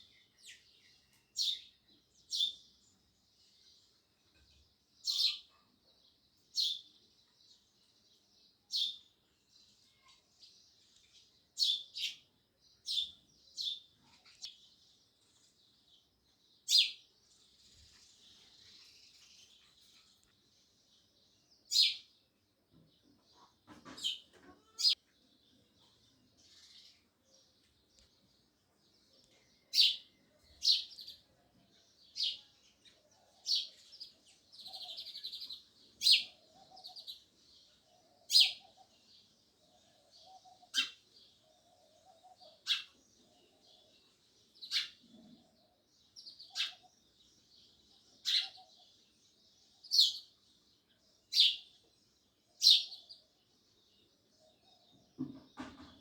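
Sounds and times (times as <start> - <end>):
soft sparrow chatter: 0.0 - 56.0
sparrows chirping: 0.0 - 56.0.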